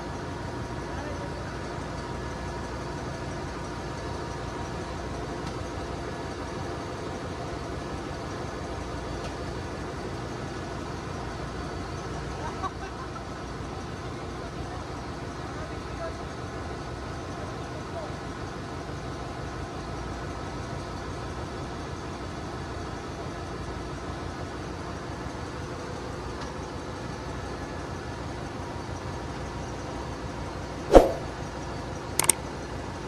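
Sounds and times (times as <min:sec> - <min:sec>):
engine room machinery drone: 0:00.0 - 0:33.0.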